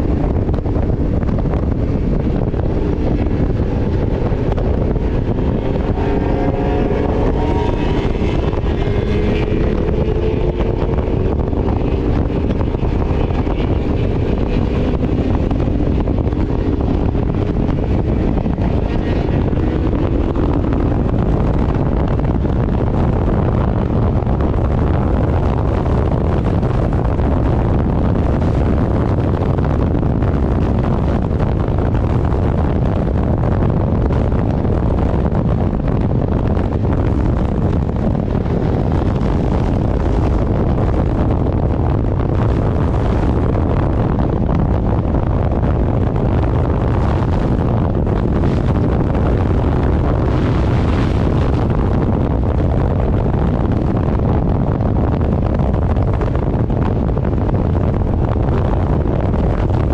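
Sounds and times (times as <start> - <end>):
motorcycle engine: 0.0 - 59.9
wind buffeting microphone: 0.0 - 59.9.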